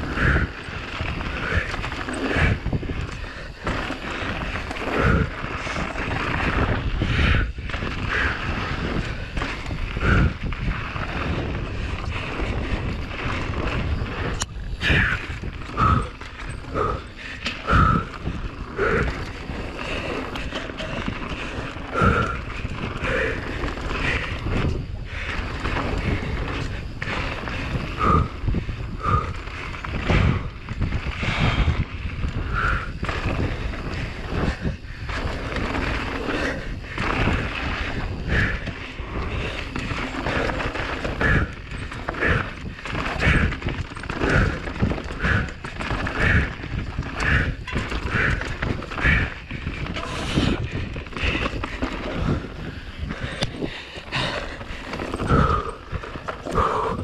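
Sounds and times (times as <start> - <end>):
bike chain and frame rattle: 0.0 - 57.0
bike tyres on dirt: 0.0 - 57.0
wind noise: 0.0 - 57.0.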